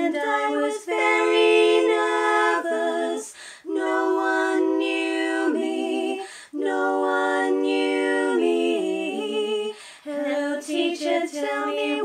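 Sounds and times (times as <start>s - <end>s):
woman singing a cappella harmony: 0.0s - 12.0s.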